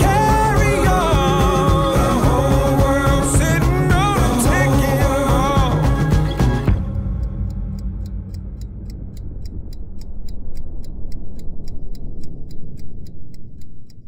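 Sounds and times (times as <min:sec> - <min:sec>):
clock-like ticking: 0:00.0 - 0:14.0
low rumble: 0:00.0 - 0:14.0.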